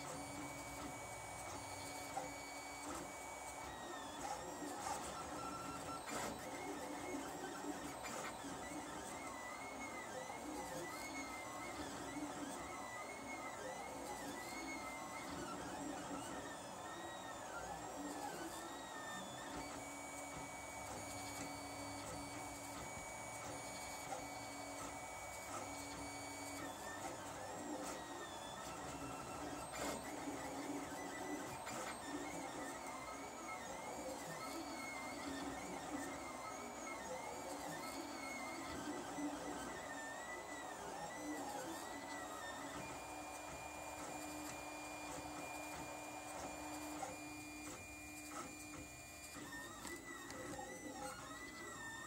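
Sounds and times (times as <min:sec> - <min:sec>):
printer stepper motors whining: 0:00.0 - 0:52.0.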